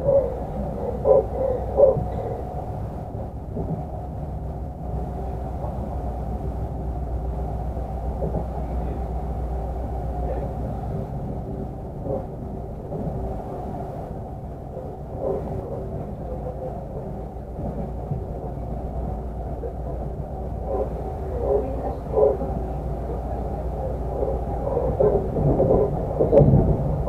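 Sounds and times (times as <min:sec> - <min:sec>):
faint steady hum: 0:00.0 - 0:27.0
train carriage rumbling on rails: 0:00.0 - 0:27.0.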